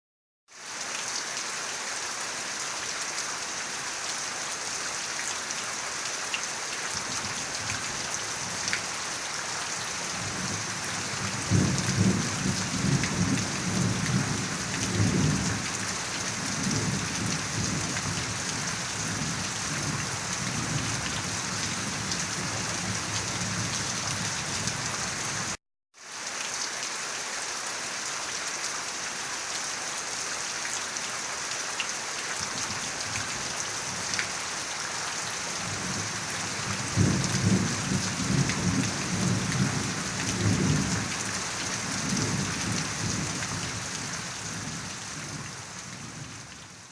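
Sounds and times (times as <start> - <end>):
steady rain: 0.5 - 46.9.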